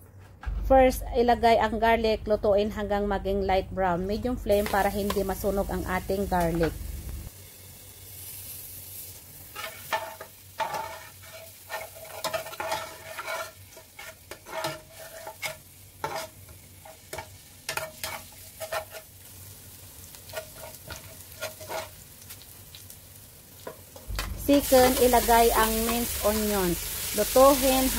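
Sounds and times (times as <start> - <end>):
garlic sizzling in oil: 4.5 - 27.9.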